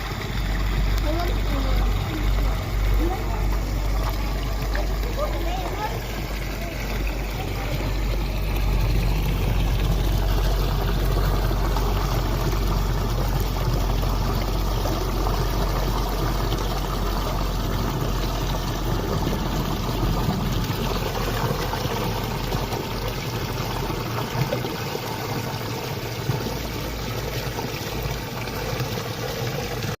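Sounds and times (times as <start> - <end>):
low rumble: 0.0 - 27.0
water trickling: 0.0 - 30.0.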